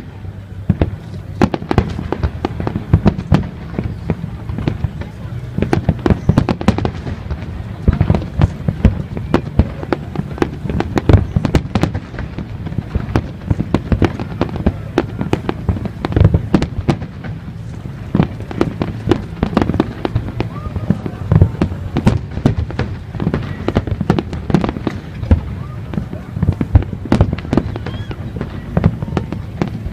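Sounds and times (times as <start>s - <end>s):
fireworks bangs and crackles: 0.0s - 29.9s.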